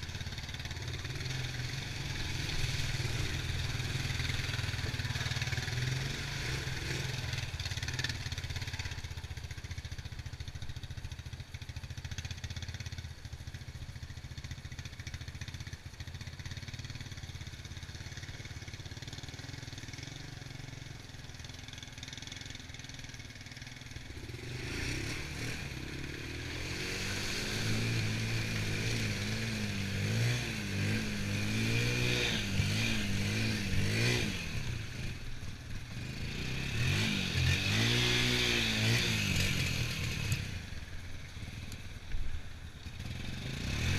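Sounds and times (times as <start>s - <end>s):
small atv engine revving: 0.0s - 43.9s.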